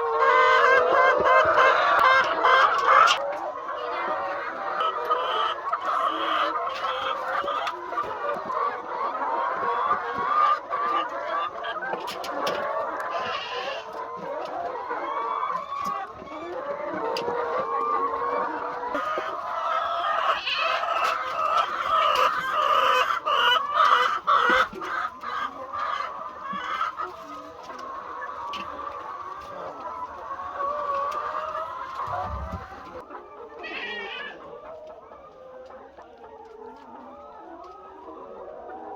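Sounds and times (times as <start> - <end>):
hens clucking and squawking: 0.0 - 38.9.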